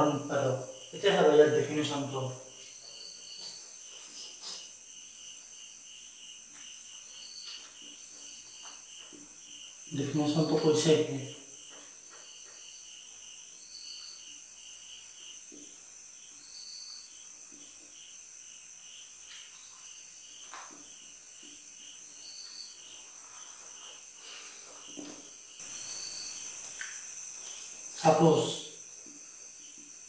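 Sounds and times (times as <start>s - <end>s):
crickets chirping: 0.0s - 30.0s
high-pitched insect drone: 0.0s - 30.0s.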